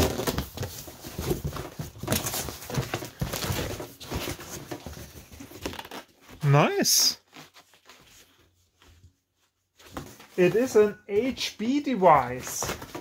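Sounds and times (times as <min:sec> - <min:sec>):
cardboard rustling and scraping: 0:00.0 - 0:06.6, 0:07.2 - 0:13.0.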